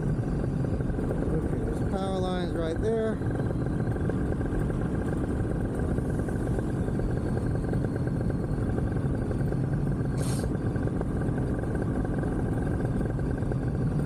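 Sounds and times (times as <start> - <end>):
paramotor engine idling: 0.0 - 14.0.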